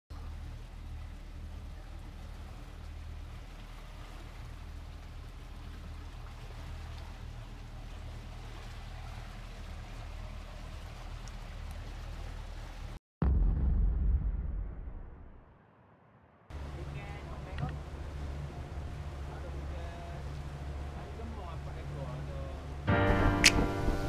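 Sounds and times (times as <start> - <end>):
boat engine humming: 0.1 - 13.0, 16.5 - 24.0.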